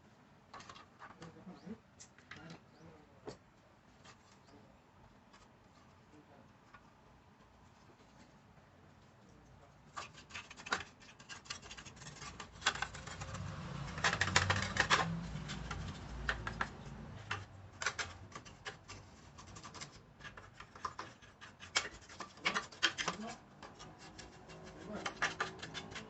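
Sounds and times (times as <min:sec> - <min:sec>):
scratching and rubbing handling noise: 0:03.8 - 0:26.0.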